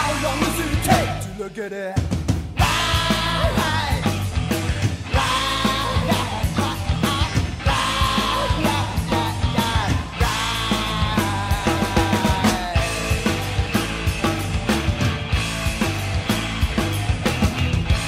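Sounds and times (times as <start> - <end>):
rock band playing: 0.0 - 18.0
bent held lead melody: 2.6 - 18.0.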